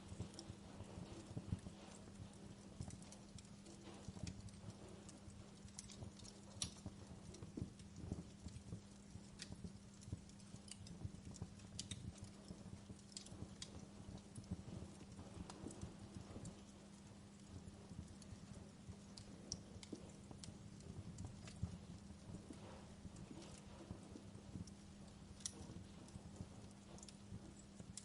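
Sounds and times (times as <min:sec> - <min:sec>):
burning logs crackling: 0:00.0 - 0:28.0
low steady hum: 0:00.0 - 0:28.0.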